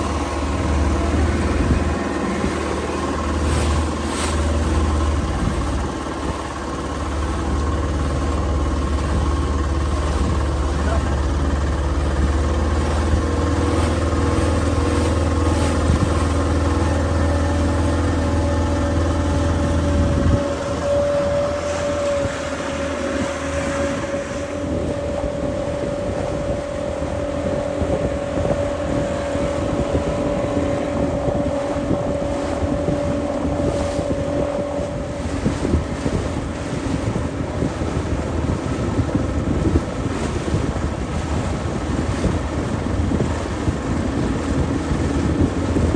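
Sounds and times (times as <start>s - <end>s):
deep low rumble: 0.0s - 45.9s
motorboat engine humming: 0.0s - 45.9s
wind on microphone: 0.0s - 45.9s.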